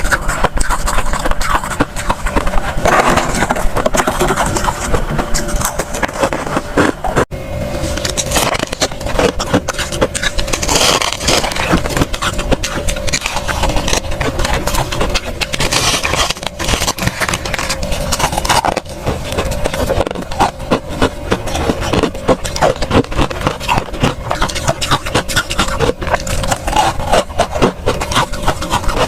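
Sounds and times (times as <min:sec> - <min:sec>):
freezer frost crunching: 0:00.0 - 0:29.0.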